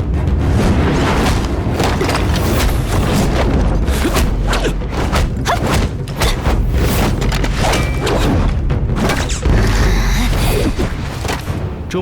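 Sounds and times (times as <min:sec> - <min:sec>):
background score music: 0:00.0 - 0:12.0.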